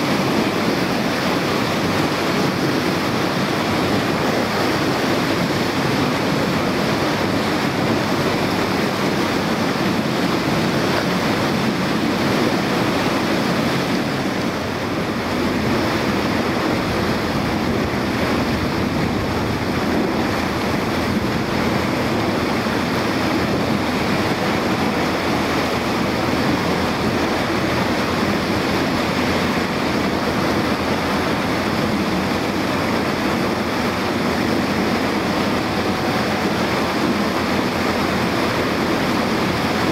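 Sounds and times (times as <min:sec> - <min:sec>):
water rushing: 0:00.0 - 0:39.9
wind buffeting microphone: 0:00.0 - 0:39.9.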